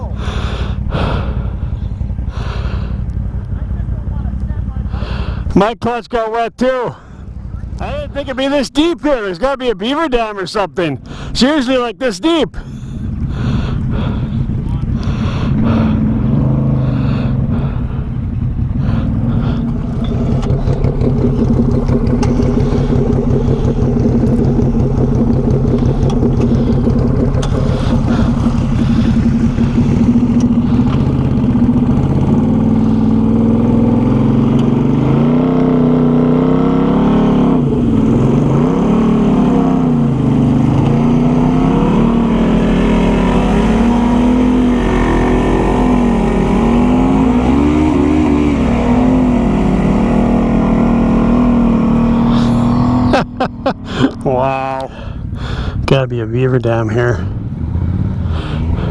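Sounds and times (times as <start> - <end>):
atv engine running and revving: 0.0 - 11.8, 12.6 - 58.9.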